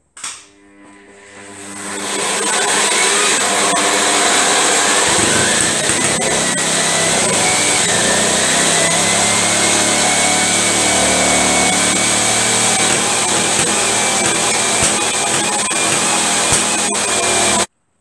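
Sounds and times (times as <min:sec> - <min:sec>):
two-stroke engine running: 0:01.6 - 0:17.7.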